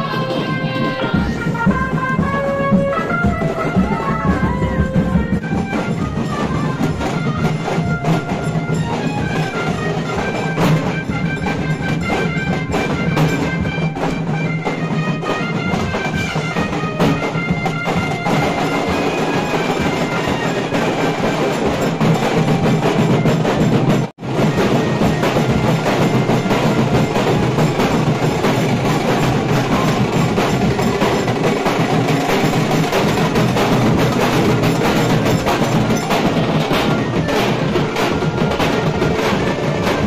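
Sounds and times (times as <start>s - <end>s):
drums and percussion: 0.0s - 40.0s
wind-instrument melody: 0.0s - 40.0s.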